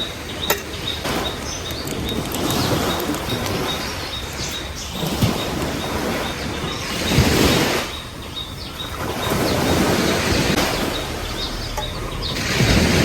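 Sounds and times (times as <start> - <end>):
sea waves breaking on beach: 0.0 - 13.0.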